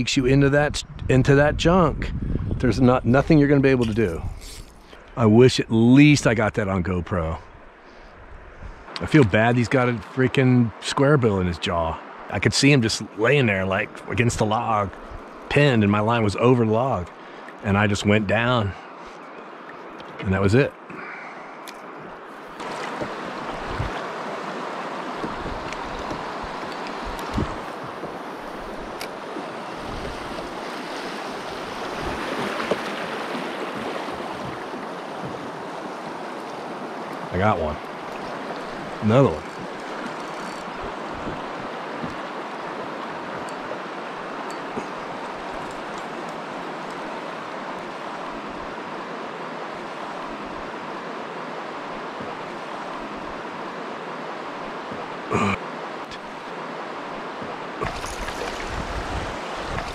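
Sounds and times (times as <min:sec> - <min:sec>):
river current rushing: 0:07.4 - 0:59.9.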